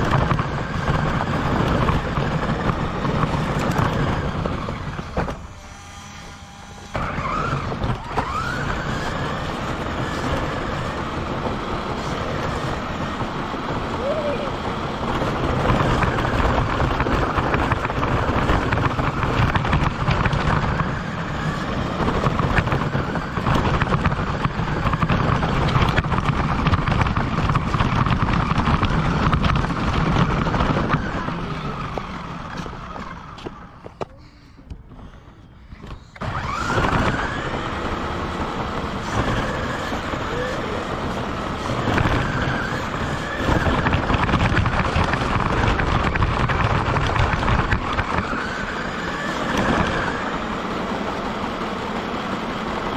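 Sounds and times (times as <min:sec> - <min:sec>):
toy car tyres rattling on pavement: 0:00.0 - 0:52.9.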